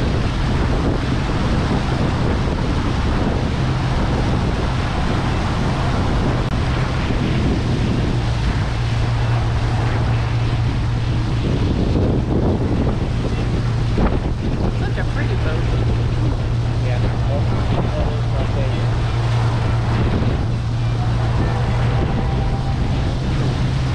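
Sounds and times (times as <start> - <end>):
boat engine running: 0.0 - 23.9
rushing water: 0.0 - 23.9
wind buffeting microphone: 0.0 - 23.9.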